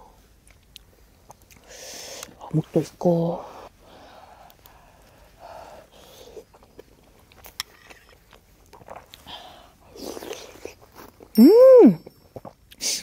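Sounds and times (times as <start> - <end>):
person chewing food: 0.3 - 2.4, 3.8 - 11.4, 12.0 - 12.8.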